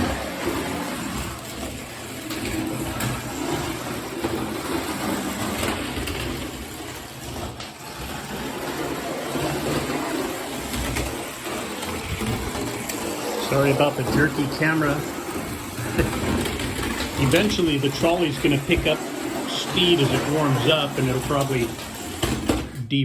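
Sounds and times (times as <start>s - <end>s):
toy train motor humming: 0.0s - 22.7s
wheels clicking on rails: 0.0s - 22.8s.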